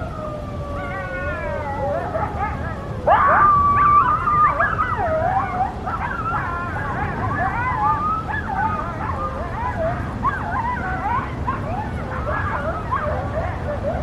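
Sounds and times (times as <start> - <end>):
coyotes howling and yipping: 0.0 - 14.0.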